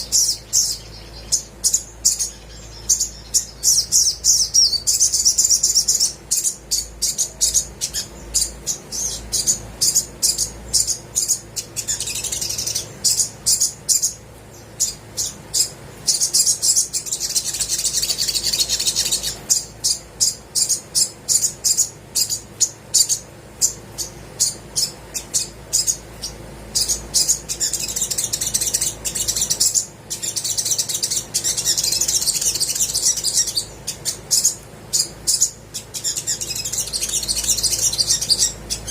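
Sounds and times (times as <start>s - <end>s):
bird high-pitched chips: 0.0s - 38.9s
bird trilling song: 0.0s - 38.9s.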